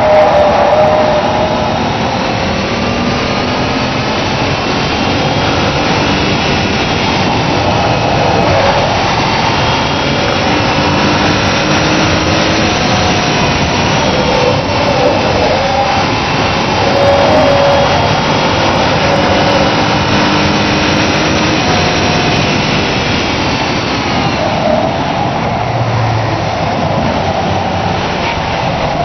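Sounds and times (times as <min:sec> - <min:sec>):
car engine revving under load: 0:00.0 - 0:29.0
rushing noise: 0:00.0 - 0:29.0.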